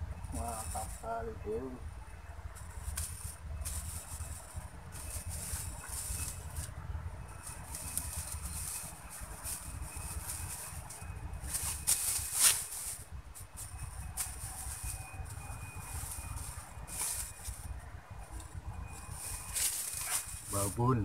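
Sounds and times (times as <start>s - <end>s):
leaves and brush rustling: 0.0s - 21.0s
wind rumble on microphone: 0.0s - 21.0s.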